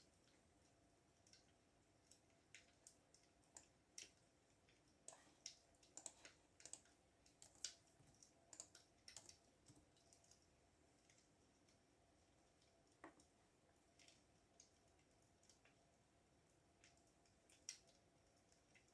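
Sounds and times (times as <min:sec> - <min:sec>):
faint keyboard typing: 0:00.0 - 0:18.9.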